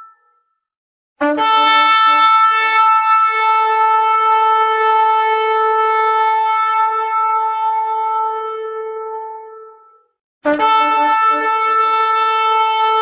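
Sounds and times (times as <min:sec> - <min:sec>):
shofar blast: 0:01.2 - 0:13.0.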